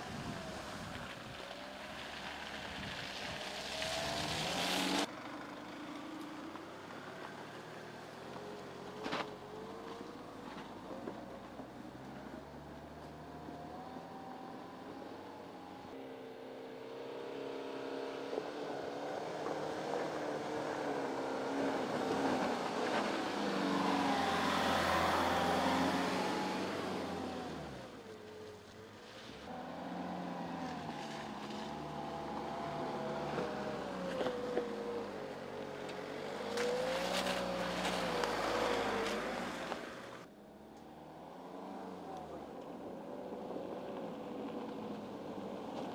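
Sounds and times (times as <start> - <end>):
tyres on dirt: 0.0 - 16.0, 17.1 - 45.9
car engine driving slowly: 0.0 - 45.9.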